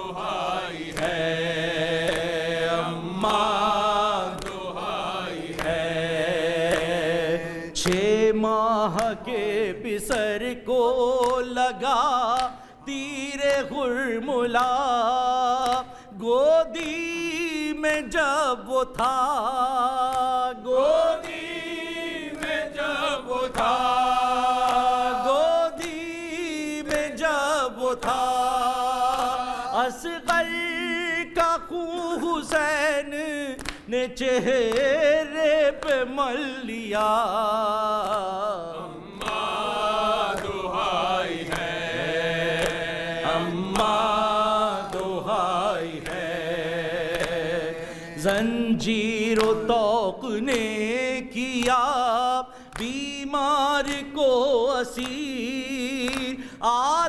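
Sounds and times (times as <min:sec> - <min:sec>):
man chanting a lament: 0:00.0 - 0:57.0.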